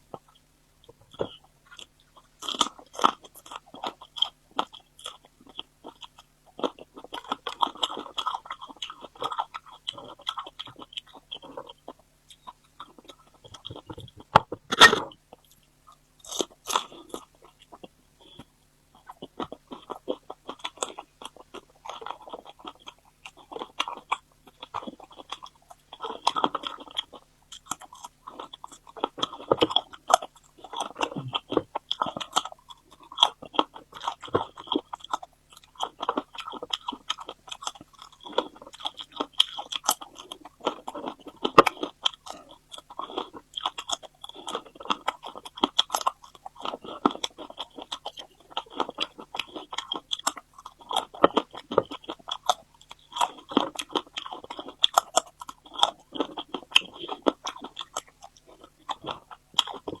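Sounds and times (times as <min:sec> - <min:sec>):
crunchy chewing: 0:00.0 - 1:00.0.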